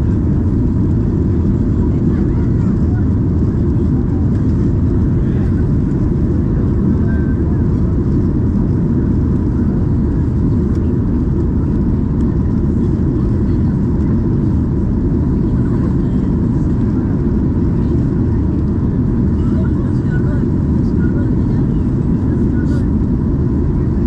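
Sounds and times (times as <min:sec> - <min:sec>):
airliner cabin roar: 0:00.0 - 0:24.0.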